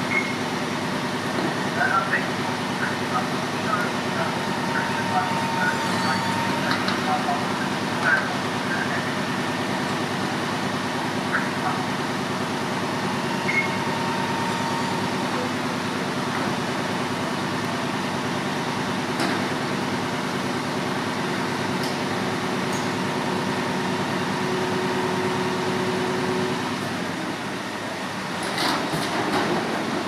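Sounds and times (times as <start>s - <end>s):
diesel engines droning: 0.0s - 30.0s.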